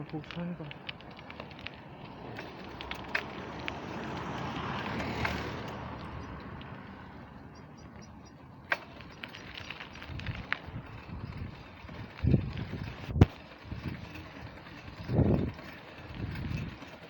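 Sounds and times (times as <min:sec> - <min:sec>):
road vehicle passing: 0:00.0 - 0:17.0.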